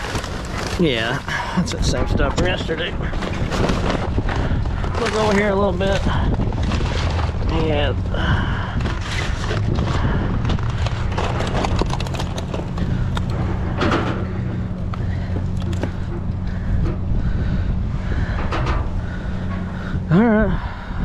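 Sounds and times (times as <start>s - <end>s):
junk rattling and knocking: 0.0s - 20.2s
vehicle engine idling: 0.3s - 21.0s.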